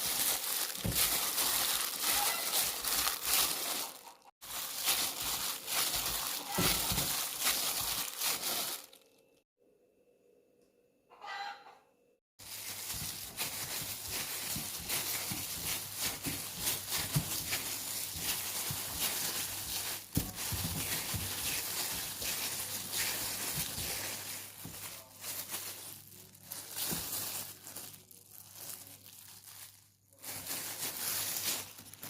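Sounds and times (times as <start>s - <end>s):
crinkling rustling handling noise: 0.0s - 9.2s, 12.4s - 32.0s.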